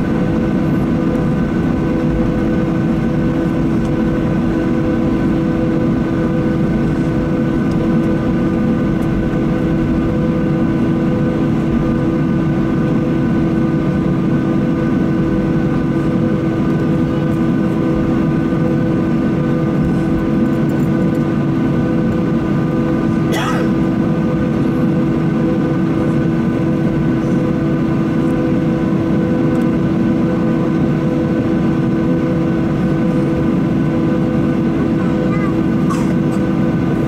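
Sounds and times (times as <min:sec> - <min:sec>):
jet engines rumbling and whining: 0:00.0 - 0:37.0.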